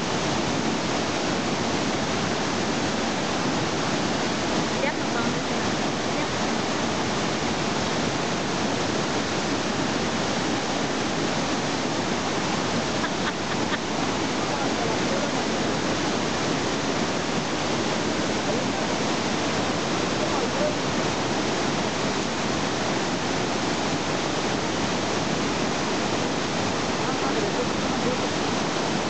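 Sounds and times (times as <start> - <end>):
waterfall pouring into stream: 0.0 - 29.0.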